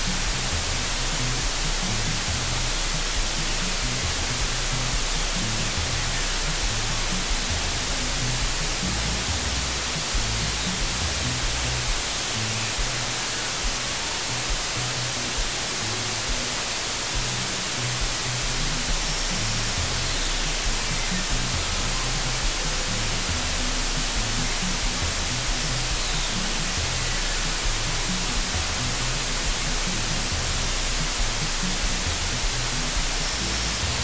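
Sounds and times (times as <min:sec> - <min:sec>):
loud hiss: 0:00.0 - 0:34.0
music with low bass: 0:00.0 - 0:34.0.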